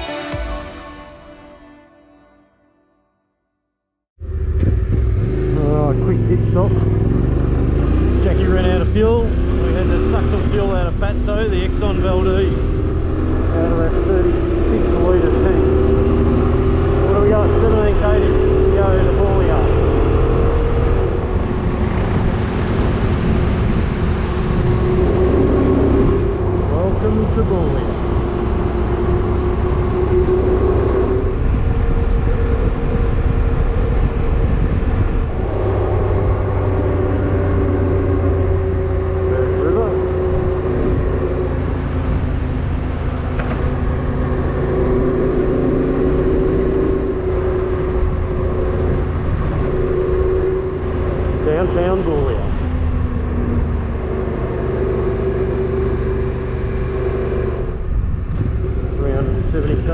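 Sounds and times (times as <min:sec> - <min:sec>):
road noise: 0:00.0 - 0:02.7, 0:04.2 - 0:59.9
motorcycle engine cruising: 0:04.2 - 0:59.9
wind rumble on microphone: 0:04.2 - 0:59.9.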